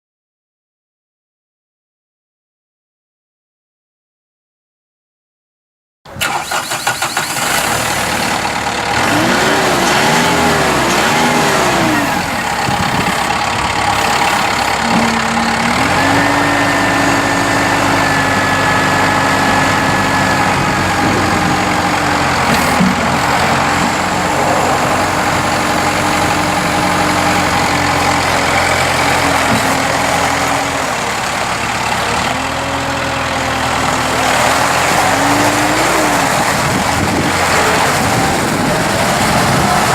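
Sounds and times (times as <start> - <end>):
diesel tractor engine revving: 6.1 - 39.9.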